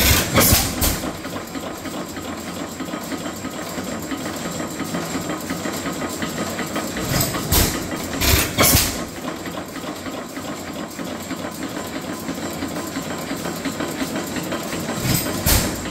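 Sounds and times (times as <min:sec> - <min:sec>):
engine chugging: 0:00.0 - 0:15.9.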